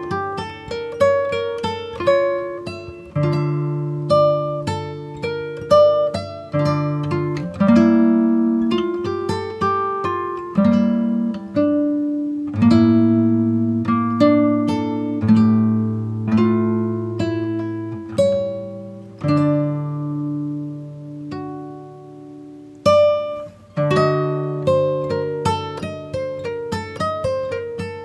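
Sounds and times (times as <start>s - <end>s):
acoustic guitar slow tune: 0.0s - 28.0s.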